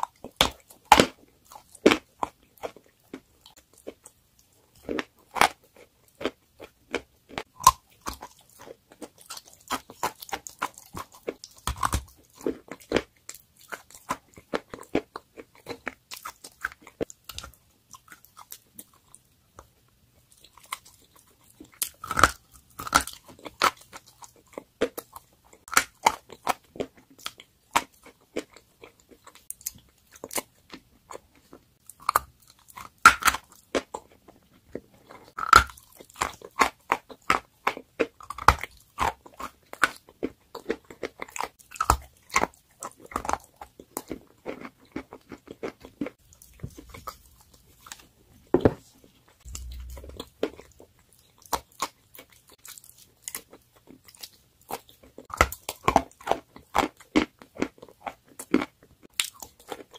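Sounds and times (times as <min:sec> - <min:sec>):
chewing chalk crunches: 0:00.0 - 0:19.2, 0:20.3 - 0:48.2, 0:48.8 - 0:59.9.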